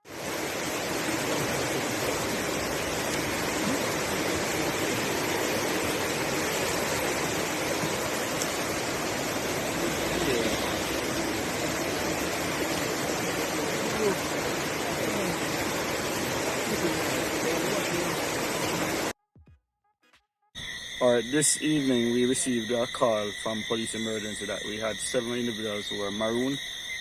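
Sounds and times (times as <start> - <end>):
floodwater rushing: 0.0 - 19.1, 21.0 - 26.7.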